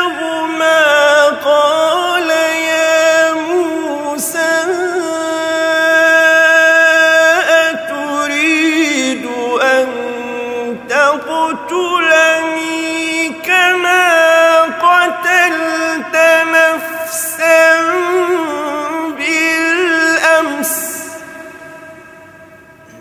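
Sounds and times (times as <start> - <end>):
man chanting melodic recitation: 0.0 - 22.2.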